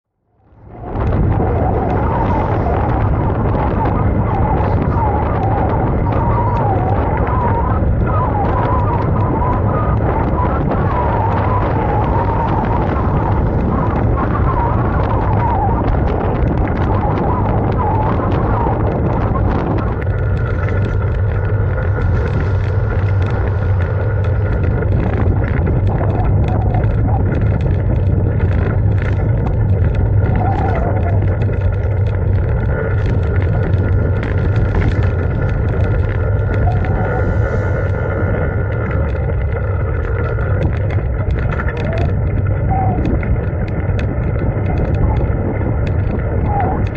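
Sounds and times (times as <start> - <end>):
wind rushing over microphone: 0.1 - 46.9
road noise: 0.3 - 46.9
steady low hum: 0.3 - 46.9.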